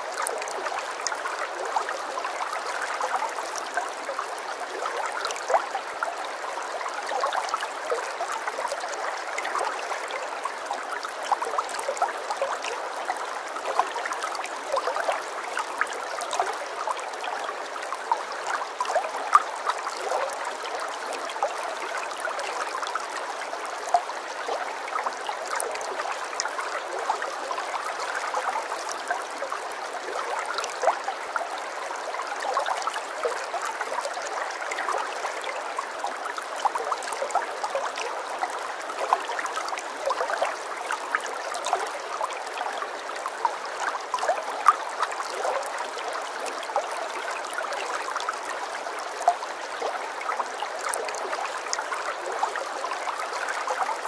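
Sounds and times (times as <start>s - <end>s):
stream flowing with splashes: 0.0s - 54.0s.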